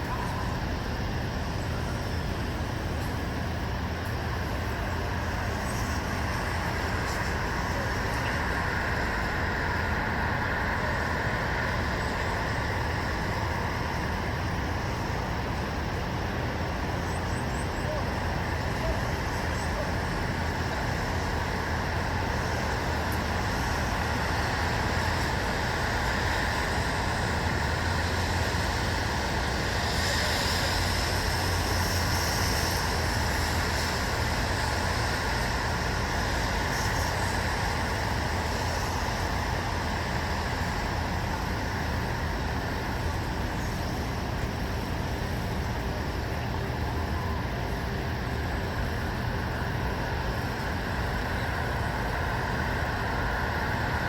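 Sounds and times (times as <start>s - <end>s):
distant road traffic hum: 0.0s - 54.0s.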